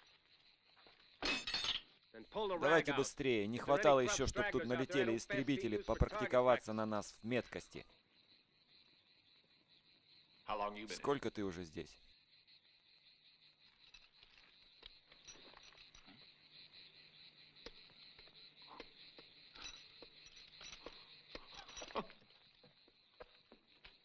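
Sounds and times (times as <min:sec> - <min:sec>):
high insect chirring: 0:00.0 - 0:24.0.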